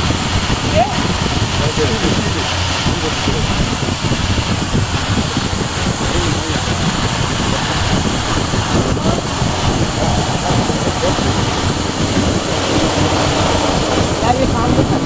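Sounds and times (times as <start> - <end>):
water spraying under pressure: 0.0 - 15.0.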